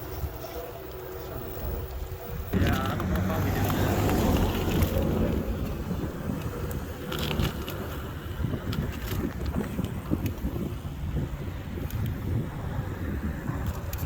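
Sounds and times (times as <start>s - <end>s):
tyres rolling over dirt: 0.0s - 11.8s
wind on microphone: 0.0s - 14.0s.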